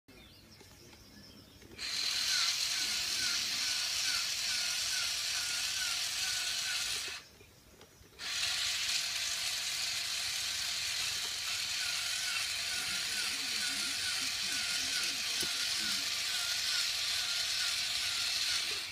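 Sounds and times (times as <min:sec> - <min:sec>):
toy electric motor whirring: 0:01.7 - 0:07.3, 0:08.2 - 0:18.9.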